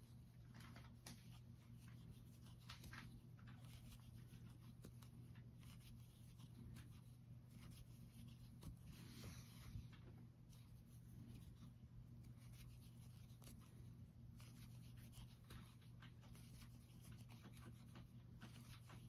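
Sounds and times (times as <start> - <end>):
low steady hum: 0.0 - 19.0
crochet hook scratching yarn: 0.8 - 9.8, 10.4 - 19.0.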